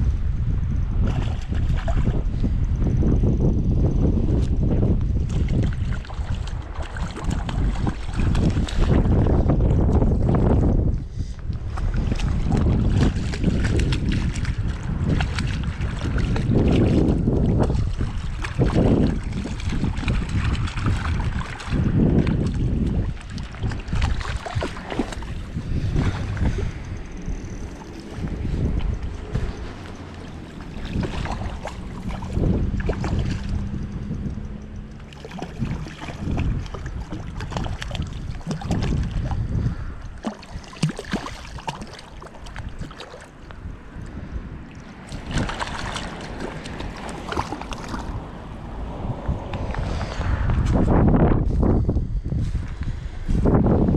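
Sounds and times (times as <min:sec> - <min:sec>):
wind buffeting microphone: 0:00.0 - 0:53.9
small splashes and ticks: 0:01.0 - 0:02.5, 0:04.3 - 0:50.8
sea water washing: 0:05.2 - 0:10.7, 0:11.6 - 0:50.2.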